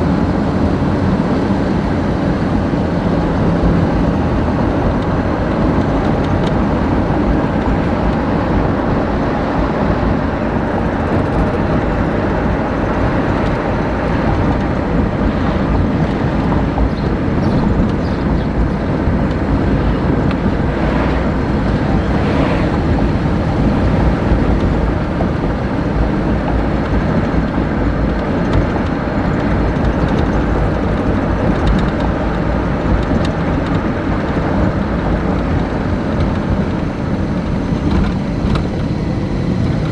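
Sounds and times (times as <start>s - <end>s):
loud rumbling noise: 0.0s - 39.9s.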